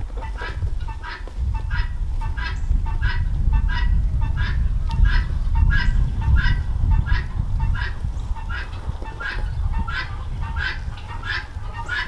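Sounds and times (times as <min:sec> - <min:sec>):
poultry calling: 0:00.1 - 0:12.0.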